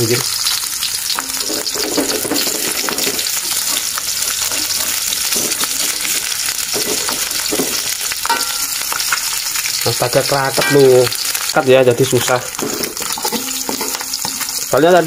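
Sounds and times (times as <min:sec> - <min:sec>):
egg sizzling in oil: 0:00.0 - 0:15.0
spatula scraping pan: 0:01.1 - 0:09.6, 0:10.2 - 0:14.8.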